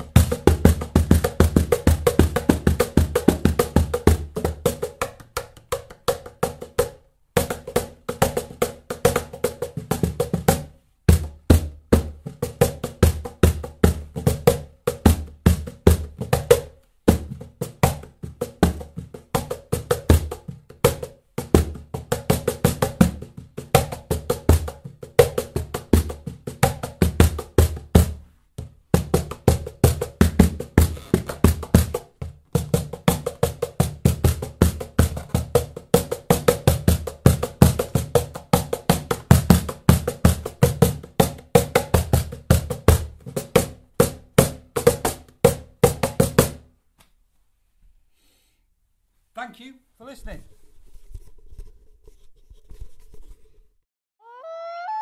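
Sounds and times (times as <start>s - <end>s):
cajon played by hand: 0.0s - 46.7s.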